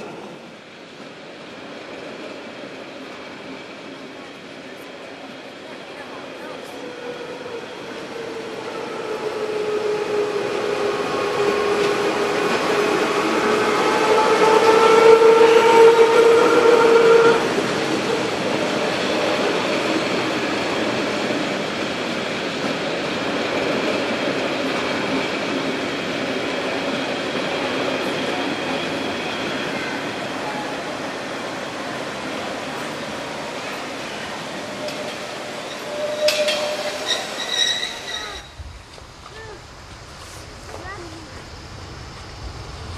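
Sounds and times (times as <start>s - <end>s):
electric train whine: 0.0s - 42.9s
train coaches rolling past: 0.0s - 42.9s.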